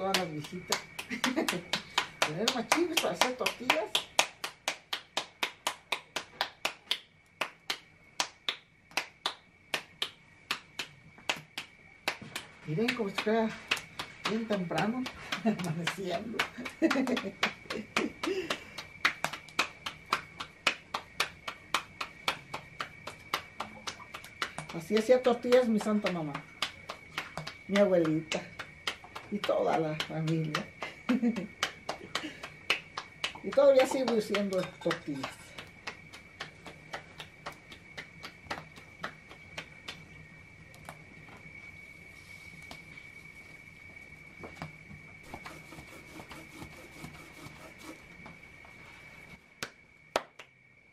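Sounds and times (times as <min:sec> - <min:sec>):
palms patting dough: 0:00.0 - 0:41.1, 0:44.6 - 0:48.5.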